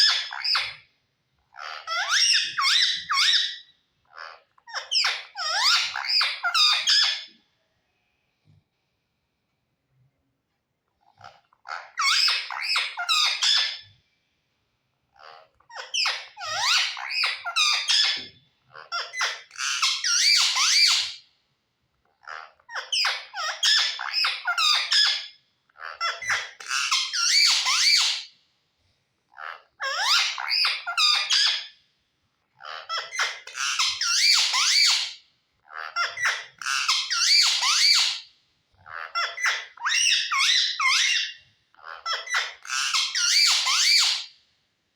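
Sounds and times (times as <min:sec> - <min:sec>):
parrot chattering and squawking: 0:00.0 - 0:00.8, 0:01.5 - 0:07.3, 0:11.0 - 0:13.8, 0:15.1 - 0:21.2, 0:22.0 - 0:28.3, 0:29.3 - 0:31.8, 0:32.5 - 0:44.3.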